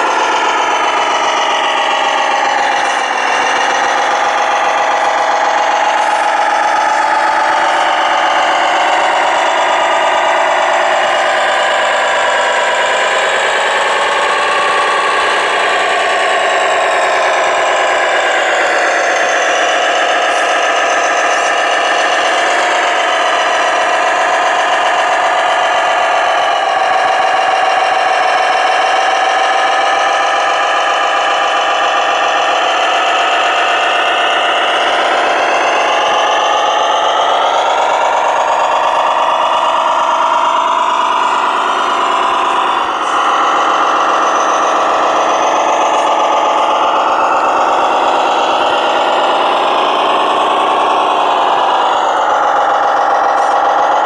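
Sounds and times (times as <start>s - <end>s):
model truck motor whine: 0.0s - 54.0s.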